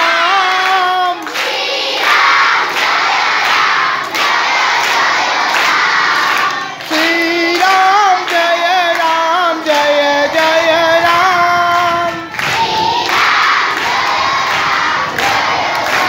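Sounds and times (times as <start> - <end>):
crowd noise: 0.0 - 16.0.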